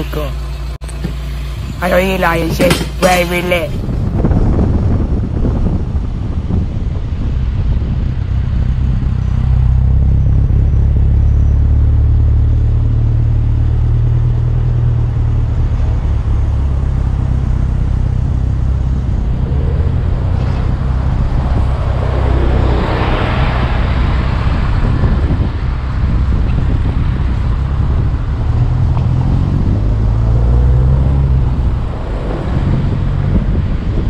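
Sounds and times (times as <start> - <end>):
car engine droning: 0.0 - 34.0
wind and road noise: 0.0 - 34.0.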